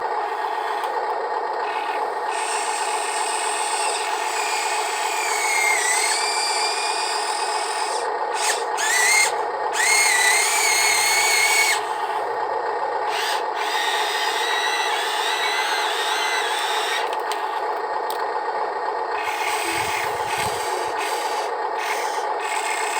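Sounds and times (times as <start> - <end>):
small electric motors whining: 0.0 - 12.4, 13.0 - 17.8, 19.1 - 22.9
steady gear hum: 0.0 - 17.9, 19.2 - 22.9.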